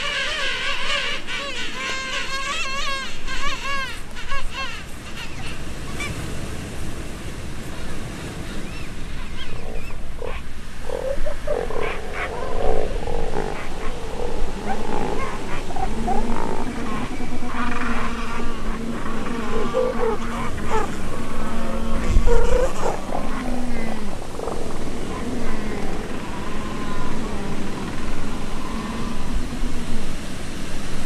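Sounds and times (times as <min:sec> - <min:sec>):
surf: 0:00.0 - 0:31.0
wind: 0:00.0 - 0:31.0.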